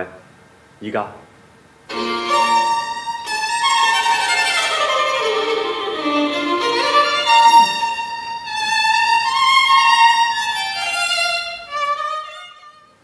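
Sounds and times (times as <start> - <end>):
slow violin melody: 1.9 - 13.0.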